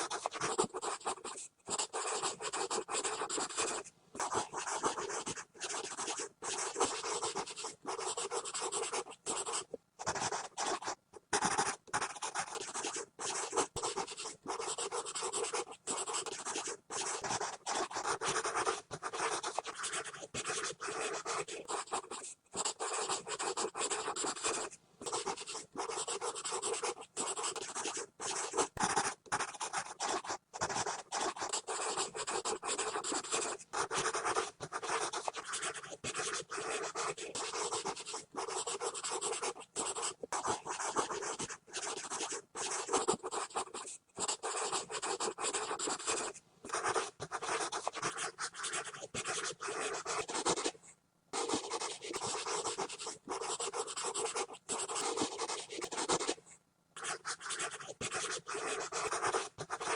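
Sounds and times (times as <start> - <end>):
pencil scribbling on paper: 0.0 - 50.8, 51.4 - 56.4, 57.0 - 59.9.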